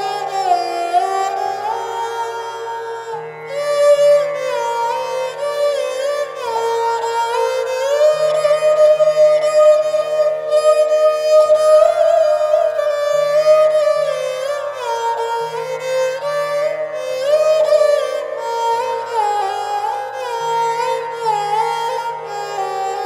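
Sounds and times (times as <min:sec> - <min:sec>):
sliding string melody: 0:00.0 - 0:23.0.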